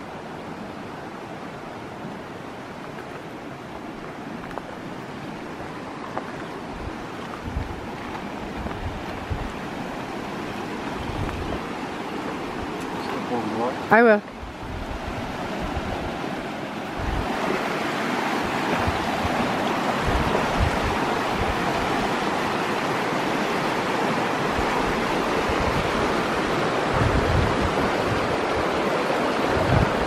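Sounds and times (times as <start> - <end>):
flowing river water: 0.0 - 30.0
wind buffeting microphone: 3.7 - 13.2, 13.9 - 30.0.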